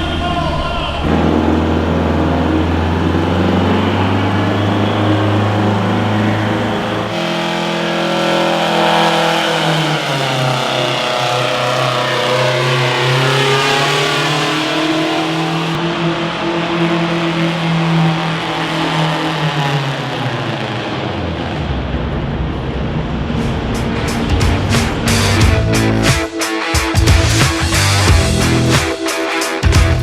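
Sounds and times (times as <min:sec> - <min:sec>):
vehicle engine running hard: 0:01.1 - 0:29.0.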